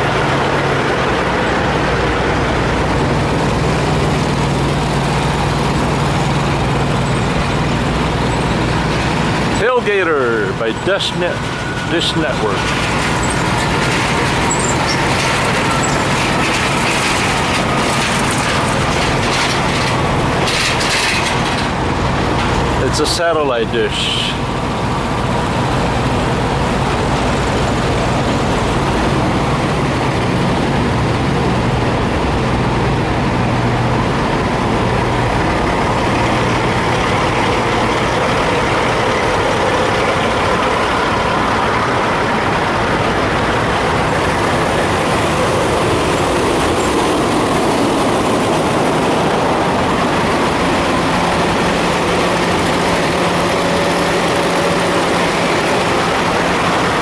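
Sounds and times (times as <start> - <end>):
diesel truck engines idling: 0.0 - 57.0.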